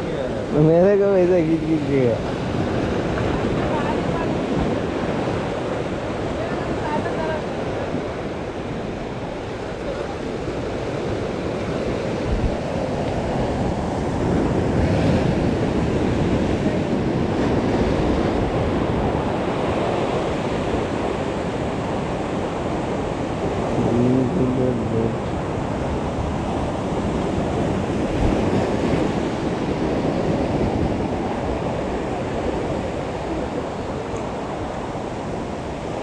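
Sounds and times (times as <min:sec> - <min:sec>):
sea waves breaking over rocks: 0:00.0 - 0:36.0.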